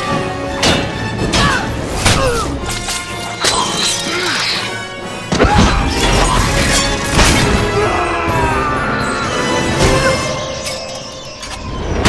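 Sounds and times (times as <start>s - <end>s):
action film score music: 0.0s - 12.0s.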